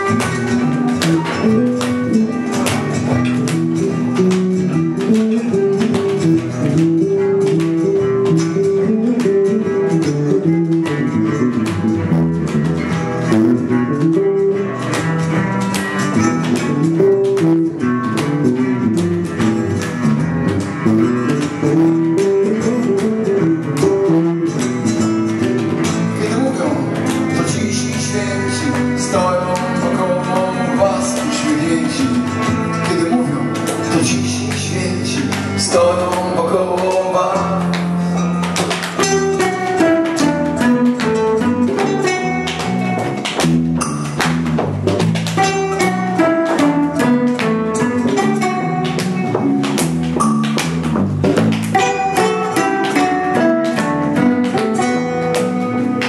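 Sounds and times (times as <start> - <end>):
cello playing: 0.0 - 56.0
classical guitar plucked and strummed: 0.0 - 56.0.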